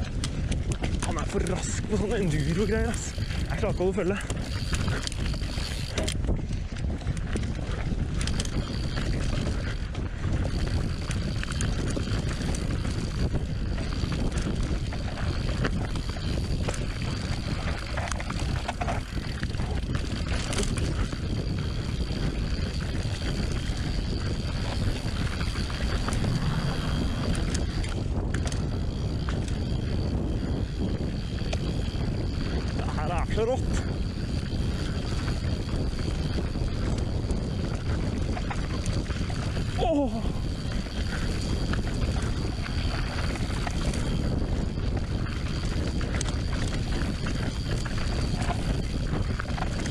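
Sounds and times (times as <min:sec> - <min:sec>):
bike rattles and clicks: 0:00.0 - 0:49.9
tyres rumbling on dirt trail: 0:00.0 - 0:49.9.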